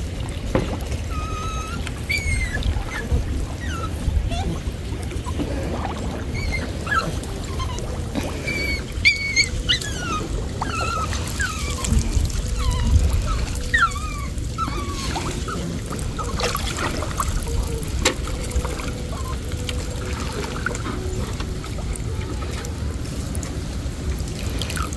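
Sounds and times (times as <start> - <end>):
water sloshing from wading: 0.0 - 24.9.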